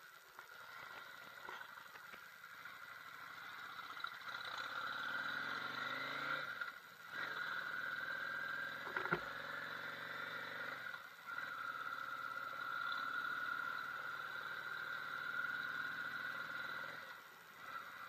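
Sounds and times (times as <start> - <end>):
motorcycle engine revving: 0.5 - 18.0.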